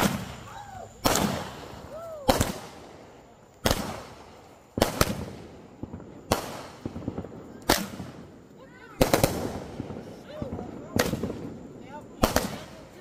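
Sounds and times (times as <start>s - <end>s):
firework crackles: 0.0s - 13.0s.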